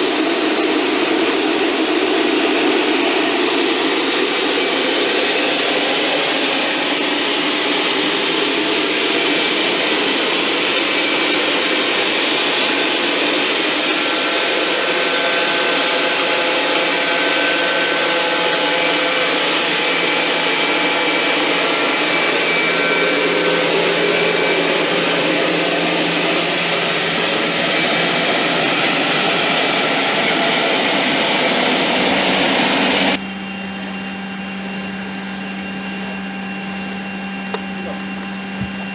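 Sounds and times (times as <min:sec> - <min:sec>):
jet engines running: 0:00.0 - 0:38.9
low hum: 0:00.0 - 0:38.9.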